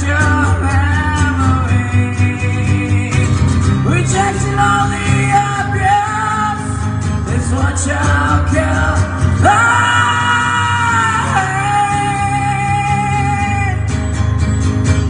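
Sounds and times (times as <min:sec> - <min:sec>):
person singing: 0:00.0 - 0:13.9
acoustic guitar: 0:00.0 - 0:15.0.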